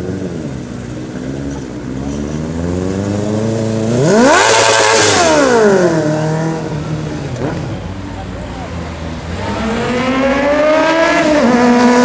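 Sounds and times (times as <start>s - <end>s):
motorcycle engine accelerating: 0.0s - 8.1s, 9.2s - 12.0s.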